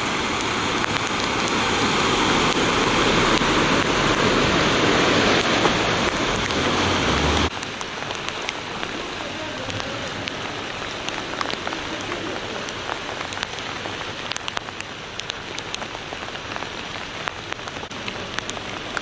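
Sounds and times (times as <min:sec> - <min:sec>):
rain falling on flooded street: 0:00.0 - 0:19.0.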